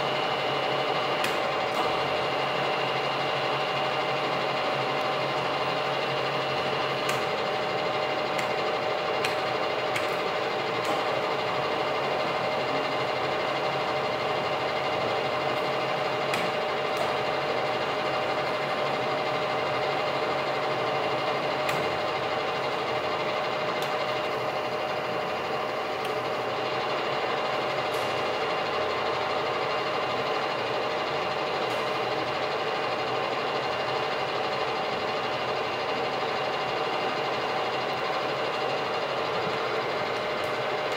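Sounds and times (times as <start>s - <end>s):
milling machine motor whining: 0.0s - 40.9s.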